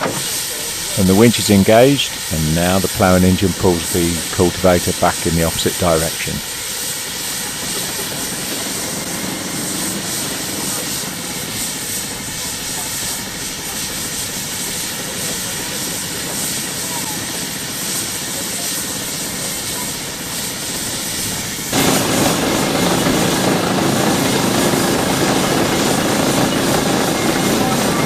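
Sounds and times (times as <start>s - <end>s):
heavy engine running under load: 0.0s - 28.0s.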